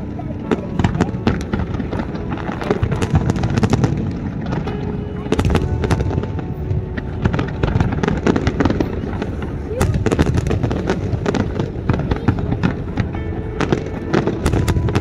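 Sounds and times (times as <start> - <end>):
crowd voices: 0.0 - 15.0
fireworks bangs and crackles: 0.0 - 15.0.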